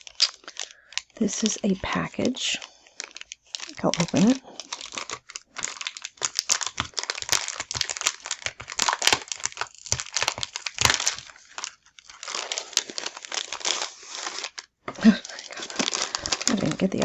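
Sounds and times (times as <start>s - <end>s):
package wrapping crinkling: 0.0s - 17.0s.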